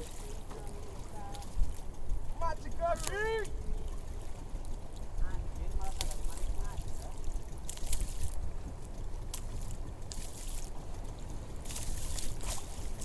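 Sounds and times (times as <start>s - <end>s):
steady low rumble: 0.0s - 13.0s
water splashing against boat: 0.0s - 13.0s.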